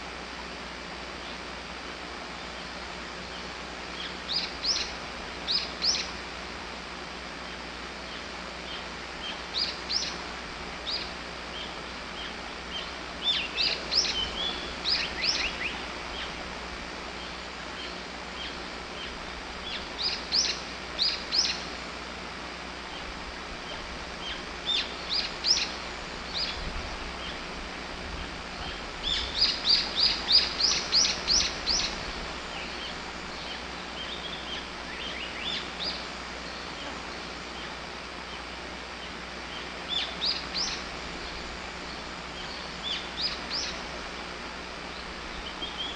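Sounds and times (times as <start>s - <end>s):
steady outdoor hiss: 0.0s - 45.9s
birds singing: 2.3s - 6.4s, 7.4s - 21.8s, 22.8s - 45.9s.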